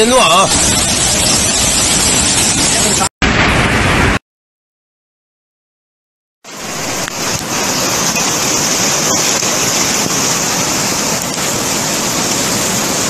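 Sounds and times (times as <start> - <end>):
heavy rain downpour: 0.0 - 4.2, 6.5 - 13.0.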